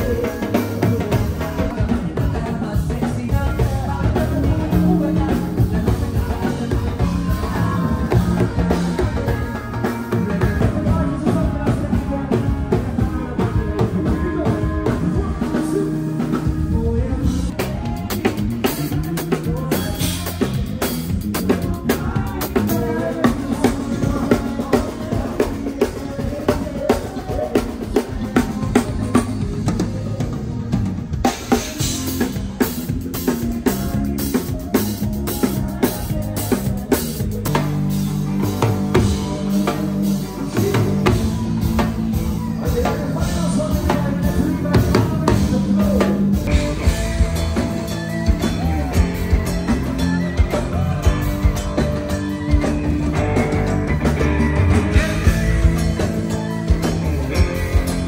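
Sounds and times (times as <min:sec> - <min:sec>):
bass notes: 0:00.0 - 0:58.0
drum kit: 0:00.0 - 0:58.0
keyboard: 0:00.0 - 0:58.0.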